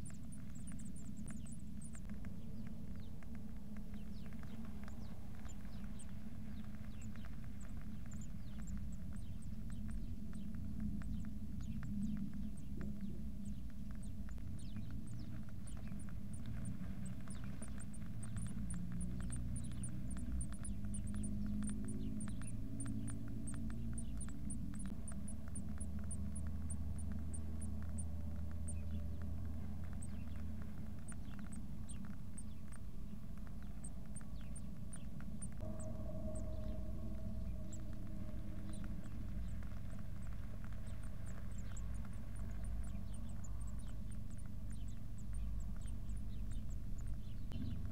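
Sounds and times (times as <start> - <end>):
low steady hum: 0.0 - 47.9
nestlings peeping: 0.0 - 47.9.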